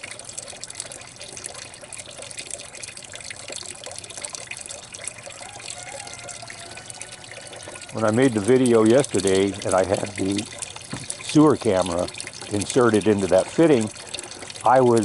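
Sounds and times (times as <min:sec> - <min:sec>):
water splashing into a bucket: 0:00.0 - 0:15.0.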